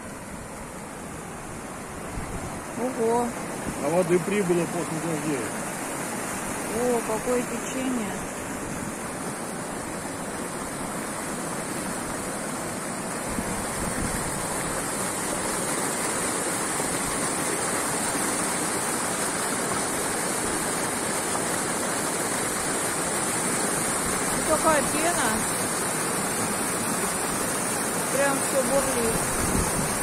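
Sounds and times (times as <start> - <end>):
river water rushing over edge: 0.0 - 30.0.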